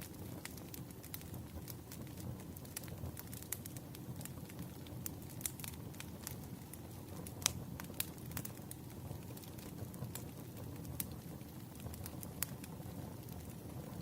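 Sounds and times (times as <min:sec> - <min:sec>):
firewood crackling and popping: 0:00.0 - 0:14.0
low fire rumble: 0:00.0 - 0:14.0.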